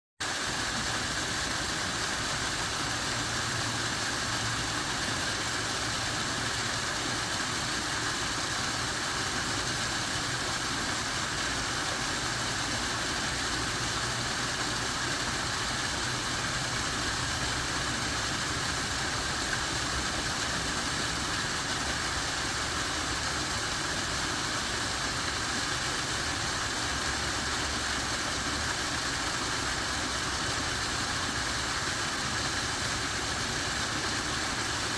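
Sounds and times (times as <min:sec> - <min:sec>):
waterfall roaring: 0:00.2 - 0:34.9.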